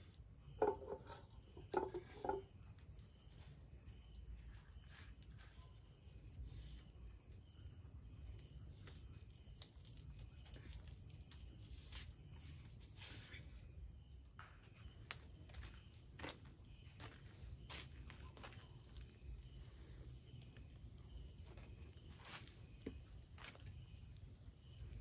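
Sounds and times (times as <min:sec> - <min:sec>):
night insects chirring: 0:00.0 - 0:25.0.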